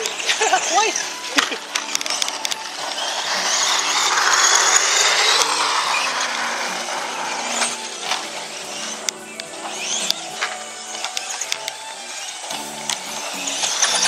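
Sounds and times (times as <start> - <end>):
toy car motor and gears whirring: 0.0 - 14.0.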